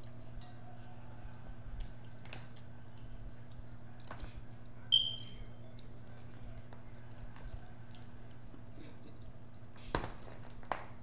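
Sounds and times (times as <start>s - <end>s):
chewing: 0.0s - 9.9s
faint steady hum: 0.0s - 11.0s.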